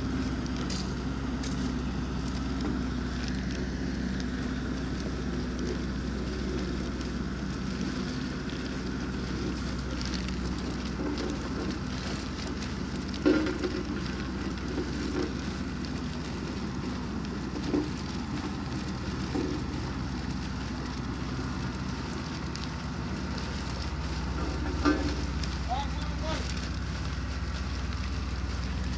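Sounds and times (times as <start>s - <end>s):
low engine-like hum: 0.0s - 28.9s.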